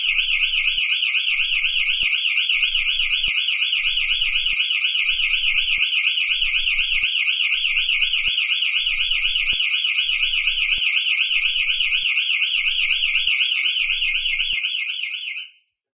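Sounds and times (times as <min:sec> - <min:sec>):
warbling alarm siren: 0:00.0 - 0:15.5.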